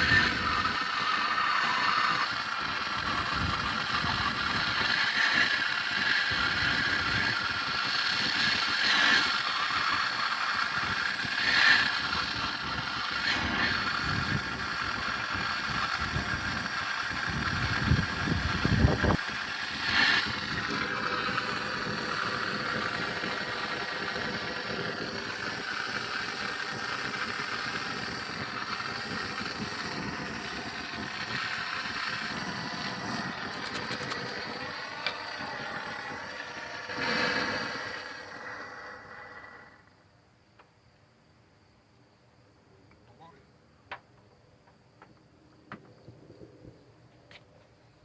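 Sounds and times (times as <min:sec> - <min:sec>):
torch flame rumble: 0:00.0 - 0:40.0
steady hiss: 0:00.0 - 0:43.3.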